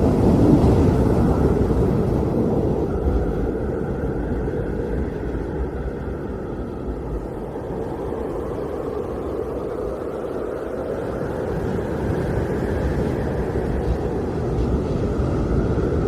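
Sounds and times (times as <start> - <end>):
blizzard wind rumbling: 0.0 - 16.0.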